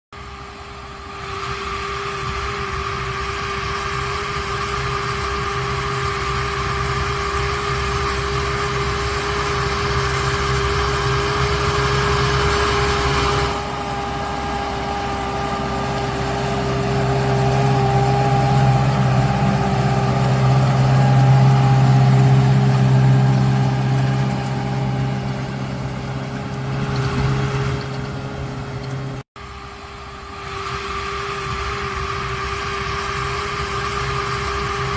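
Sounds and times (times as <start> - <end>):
diesel engine drone: 0.1 - 34.9
machinery whine: 0.2 - 34.9.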